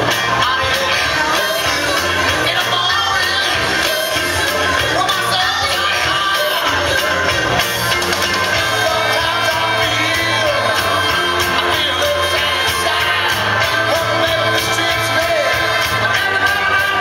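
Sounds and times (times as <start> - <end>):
loud pop dance music with singing: 0.0 - 17.0.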